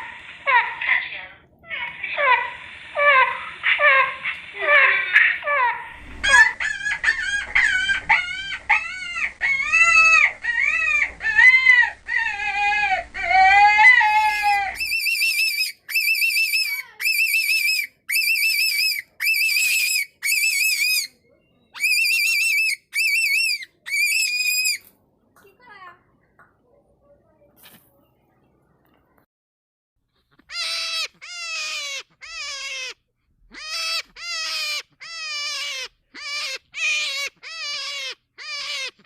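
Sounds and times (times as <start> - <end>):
squeaky animal calls: 1.7 - 24.9, 30.2 - 39.0.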